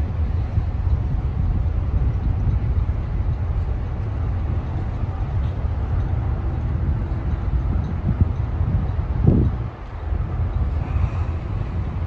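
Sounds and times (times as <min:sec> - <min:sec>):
faint ship engine hum: 0:00.0 - 0:12.0
wind buffeting microphone: 0:00.0 - 0:12.0.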